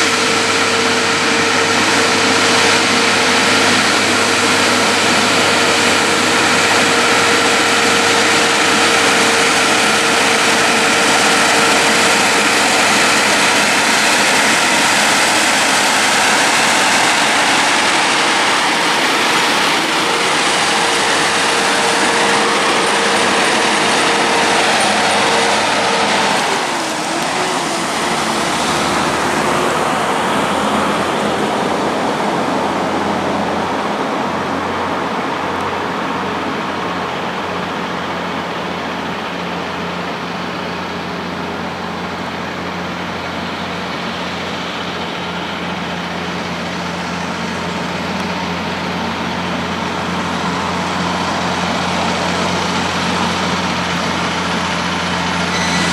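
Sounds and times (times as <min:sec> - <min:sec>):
diesel truck engines: 0:00.0 - 0:55.9
tyre road noise: 0:00.0 - 0:55.9.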